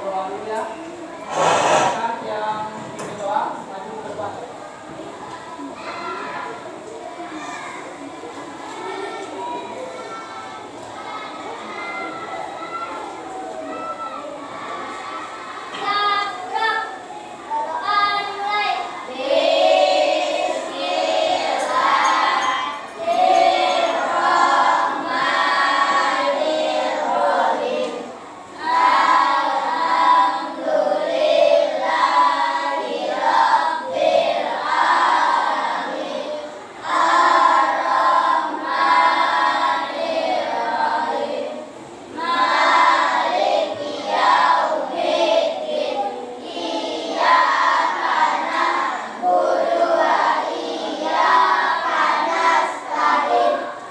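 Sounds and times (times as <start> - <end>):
children singing together: 1.2 - 2.3, 5.6 - 53.9.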